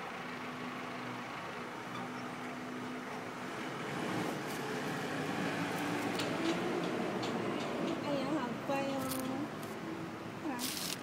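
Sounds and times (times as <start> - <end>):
city traffic hum: 0.0 - 11.0.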